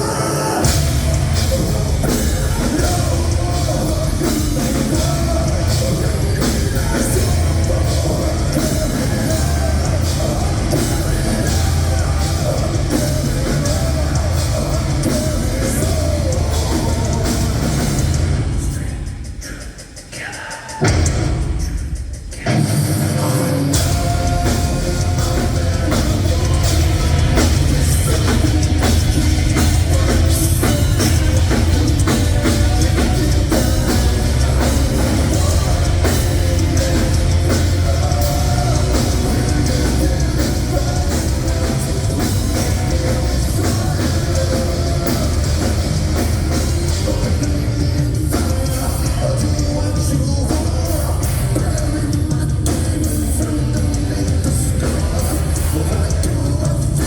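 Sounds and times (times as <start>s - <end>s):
bass guitar: 0.0s - 18.7s, 23.0s - 57.0s
distorted guitars: 0.0s - 57.0s
pounding drum kit: 0.0s - 57.0s.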